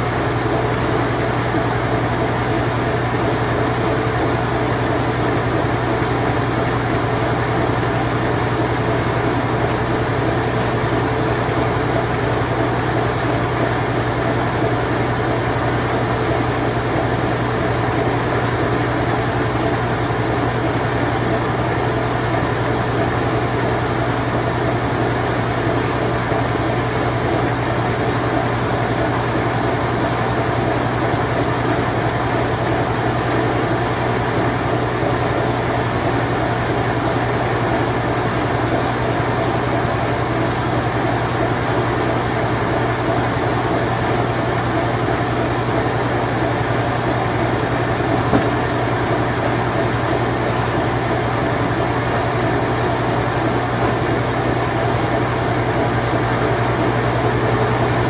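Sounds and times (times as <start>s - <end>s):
washing machine spin cycle: 0.0s - 58.0s.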